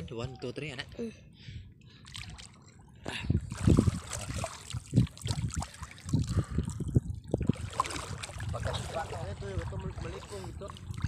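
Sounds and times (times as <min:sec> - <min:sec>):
water splashing and sloshing: 0:01.8 - 0:11.0.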